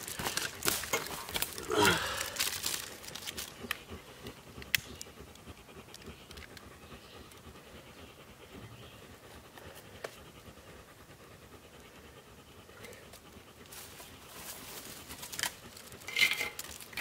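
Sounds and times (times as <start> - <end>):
dog panting: 2.4 - 16.1.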